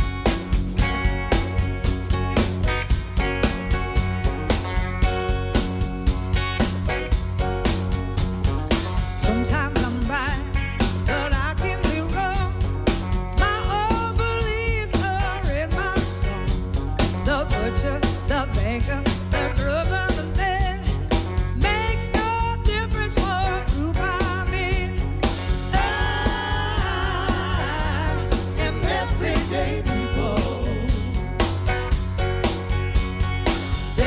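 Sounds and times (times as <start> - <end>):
blues-rock band playing: 0.0 - 34.0.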